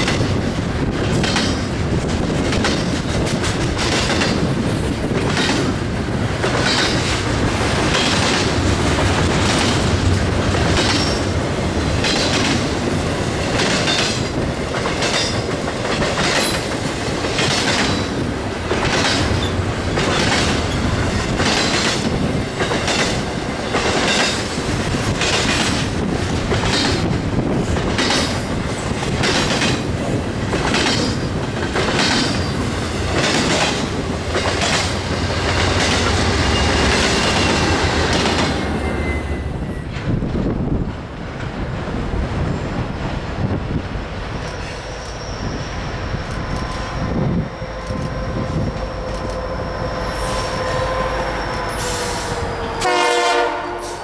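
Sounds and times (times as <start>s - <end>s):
wheels clacking on rail joints: 0.0s - 53.0s
freight train cars rumbling past: 0.0s - 54.0s.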